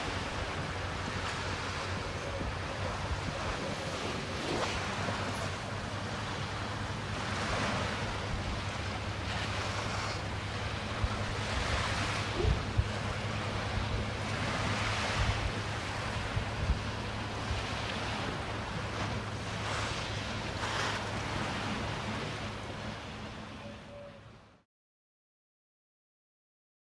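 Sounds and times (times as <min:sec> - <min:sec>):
wind rumbling on microphone: 0:00.0 - 0:23.0
small sea waves breaking: 0:00.0 - 0:23.4.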